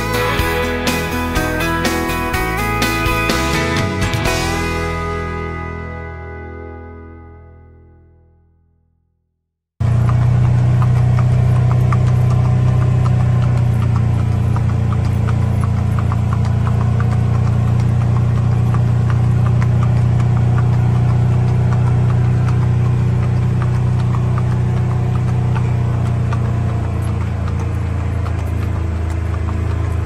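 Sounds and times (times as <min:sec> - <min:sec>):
horse hooves on pavement: 0:00.0 - 0:04.7, 0:09.8 - 0:30.0
vehicle engine droning: 0:00.0 - 0:06.4, 0:09.8 - 0:30.0.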